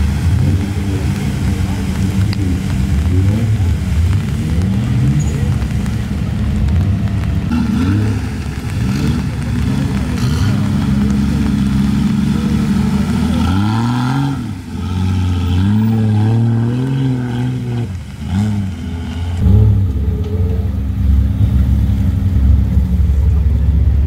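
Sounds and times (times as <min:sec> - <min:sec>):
off-road engine revving: 0:00.0 - 0:24.0.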